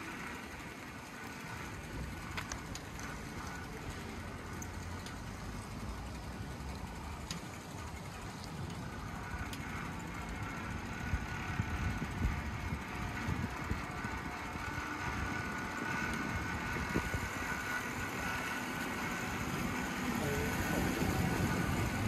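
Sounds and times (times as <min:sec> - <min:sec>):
bicycle rattling and knocking: 0:00.0 - 0:22.0
bicycle rolling on wet pavement: 0:00.0 - 0:22.0.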